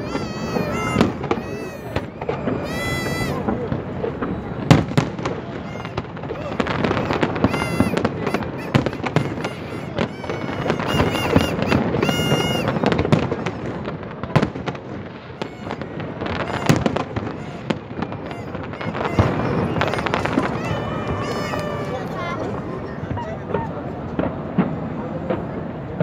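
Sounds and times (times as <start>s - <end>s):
fireworks bangs and crackles: 0.0s - 26.0s
shrill whistling fireworks: 0.0s - 26.0s.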